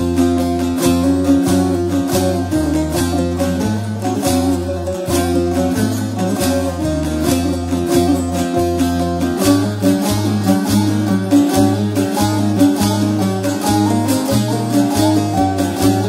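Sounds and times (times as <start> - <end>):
low bass line: 0.0 - 16.0
plucked long-necked lute melody: 0.0 - 16.0.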